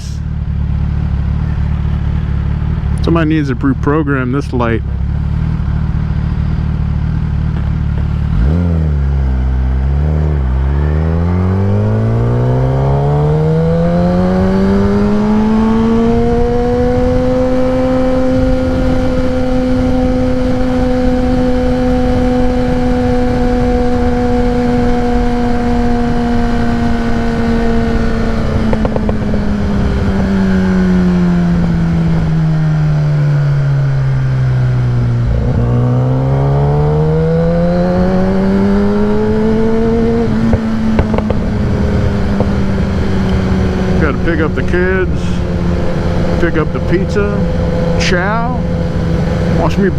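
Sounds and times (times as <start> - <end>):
low wind rumble: 0.0 - 49.9
motorcycle engine revving: 0.0 - 49.9.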